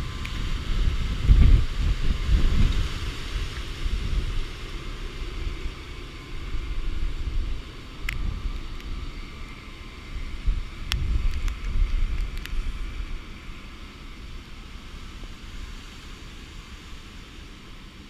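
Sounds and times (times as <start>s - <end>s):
rushing hiss: 0.0s - 18.0s
wind buffeting microphone: 0.0s - 18.0s.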